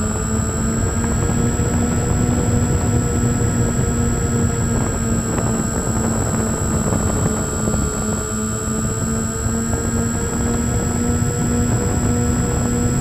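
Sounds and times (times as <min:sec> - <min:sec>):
high steady whine: 0:00.0 - 0:13.0
model airplane motor and propeller: 0:00.0 - 0:13.0
wind rumbling on microphone: 0:00.0 - 0:13.0.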